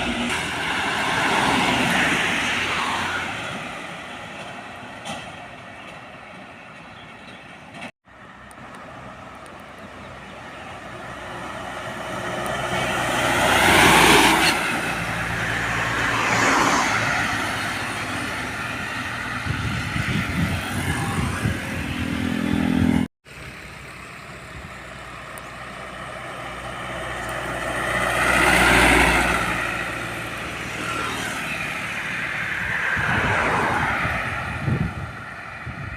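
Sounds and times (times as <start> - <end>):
vehicles passing close by: 0.0 - 35.9.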